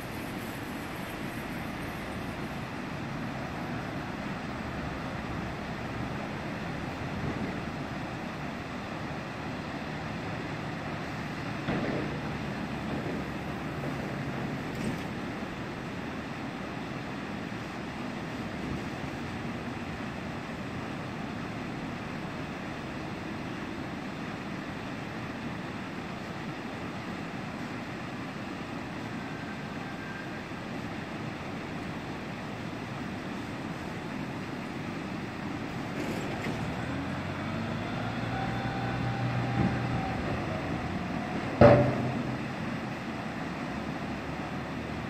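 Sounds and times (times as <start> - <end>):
seawater gushing: 0.0 - 45.0.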